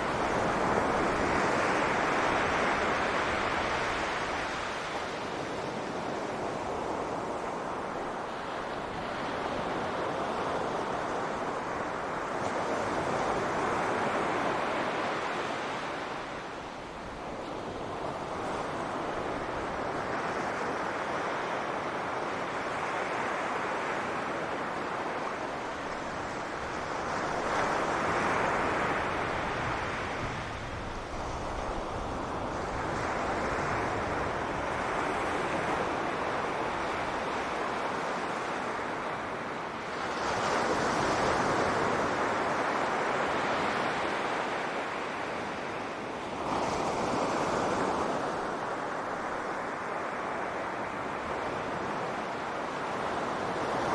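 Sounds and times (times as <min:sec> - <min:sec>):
ocean waves breaking: 0:00.0 - 0:53.9
wind on microphone: 0:00.0 - 0:53.9.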